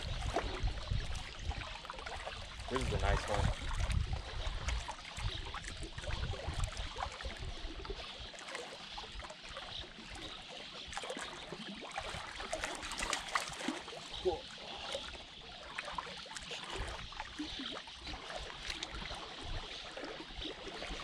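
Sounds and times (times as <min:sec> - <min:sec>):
waves lapping against rocks: 0:00.0 - 0:21.0.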